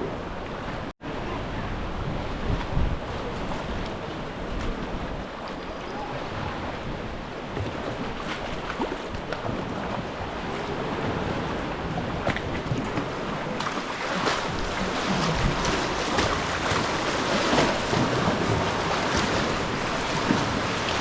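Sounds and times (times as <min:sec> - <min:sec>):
sea water sloshing: 0:03.0 - 0:21.0.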